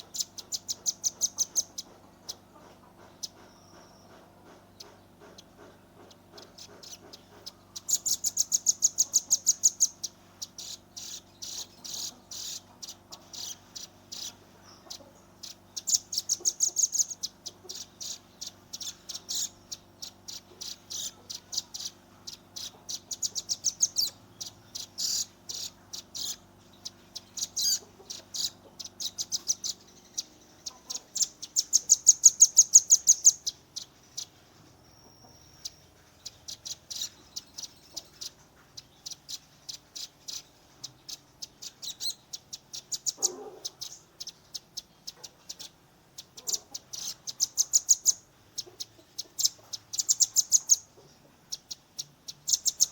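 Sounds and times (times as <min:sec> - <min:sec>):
bird rattling trills: 0:00.0 - 0:34.5, 0:35.4 - 0:50.9
bird calling with sharp chips: 0:00.0 - 0:52.9
faint low hum: 0:00.0 - 0:52.9.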